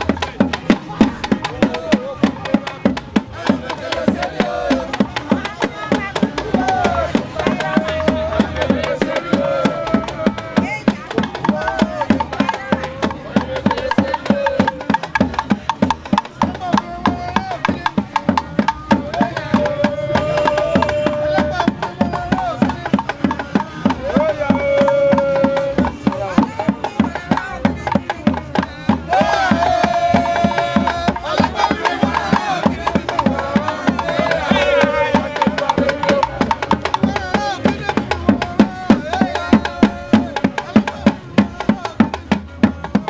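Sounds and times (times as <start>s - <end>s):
fast drum percussion: 0.0s - 43.0s
voices singing: 0.0s - 43.0s.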